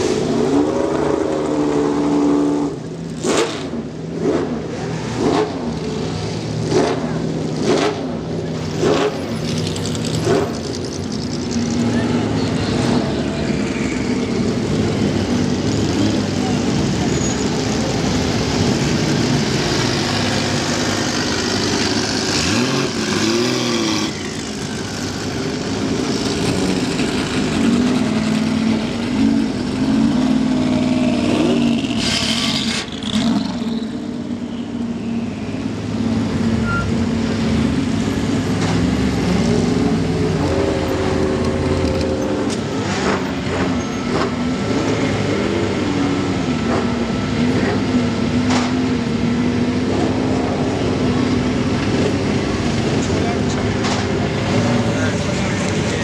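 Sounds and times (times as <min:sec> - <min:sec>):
race car engines passing slowly: 0:00.0 - 0:56.0.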